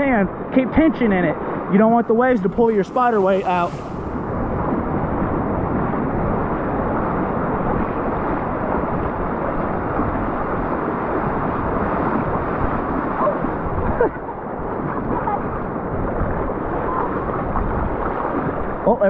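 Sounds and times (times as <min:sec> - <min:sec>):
wind buffeting microphone: 0:00.0 - 0:18.9
ocean surf washing: 0:00.0 - 0:19.0.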